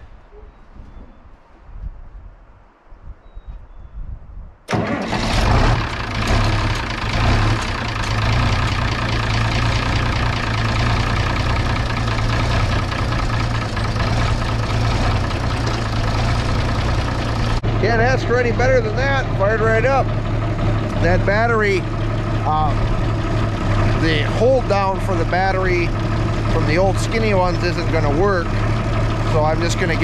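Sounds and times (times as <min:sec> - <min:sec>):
tractor diesel engine starting: 0:04.7 - 0:30.0.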